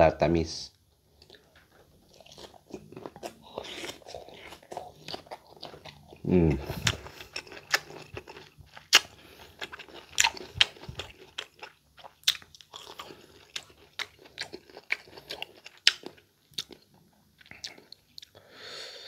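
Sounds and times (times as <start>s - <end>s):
mango crunching while chewed: 1.2s - 18.4s.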